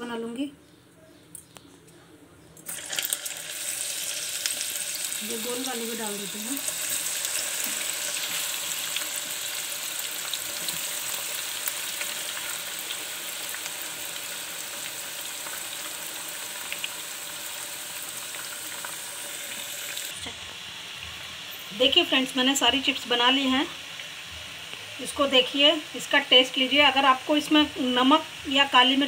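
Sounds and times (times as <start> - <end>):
frying oil sizzling: 2.7 - 29.0.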